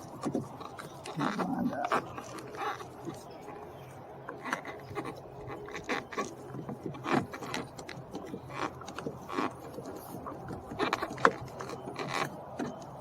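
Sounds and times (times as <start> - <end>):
plastic panel rubbing and scraping: 0.0 - 13.0.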